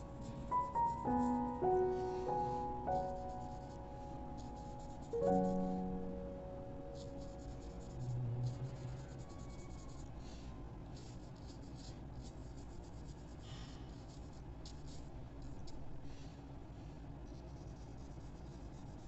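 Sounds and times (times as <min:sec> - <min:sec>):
brush rubbing on paper: 0:00.0 - 0:06.0, 0:06.9 - 0:15.8, 0:17.2 - 0:19.0.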